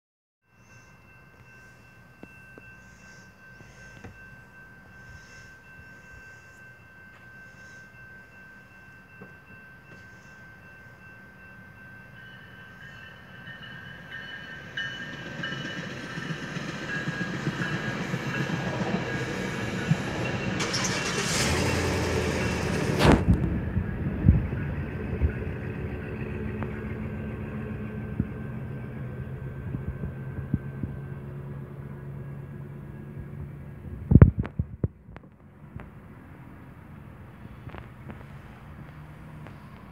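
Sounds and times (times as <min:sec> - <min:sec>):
low hum of train cars: 0:00.5 - 0:39.9
train rumbling past: 0:01.0 - 0:34.6, 0:35.3 - 0:39.9.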